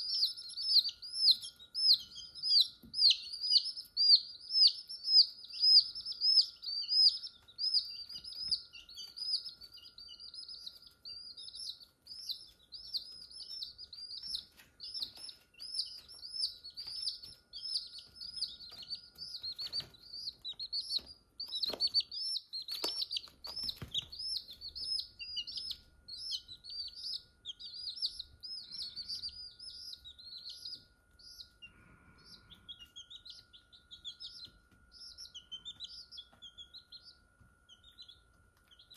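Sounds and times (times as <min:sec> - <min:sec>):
chicks peeping: 0:00.0 - 0:38.9
faint steady hum: 0:00.0 - 0:38.9.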